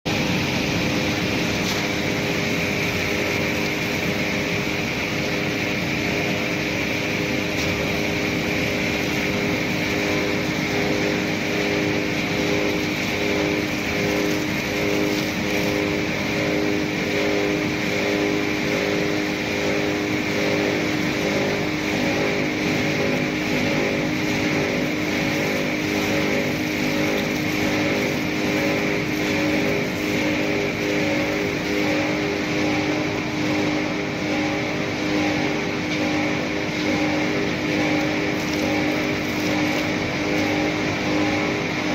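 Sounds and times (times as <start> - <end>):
motor and gearbox hum: 0.0 - 41.9
wire shredder chewing wire: 0.1 - 41.9.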